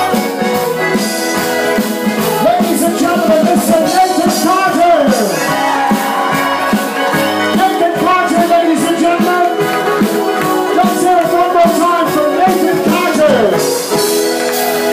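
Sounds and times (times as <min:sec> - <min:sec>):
country band playing: 0:00.0 - 0:14.9.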